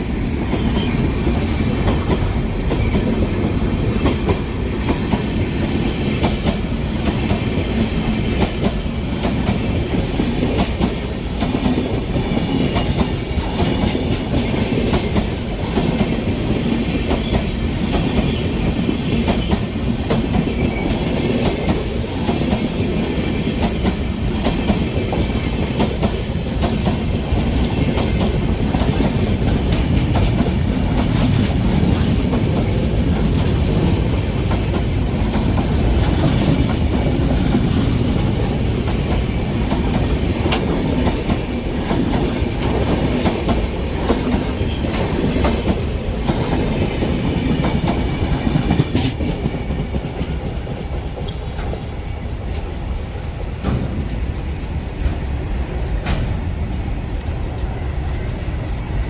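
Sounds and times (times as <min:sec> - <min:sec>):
freight train rumble: 0:00.0 - 0:59.0
train wheels clicking over rail joints: 0:00.0 - 0:59.0.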